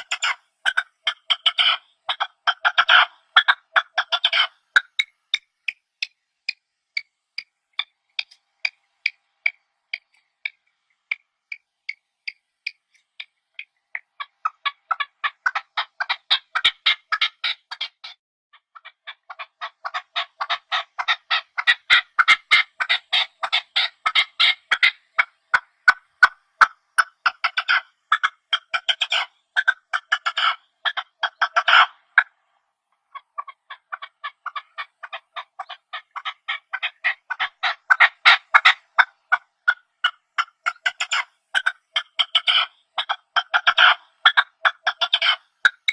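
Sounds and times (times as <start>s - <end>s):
partridges calling: 0.0s - 18.2s, 18.8s - 32.3s, 33.0s - 45.9s.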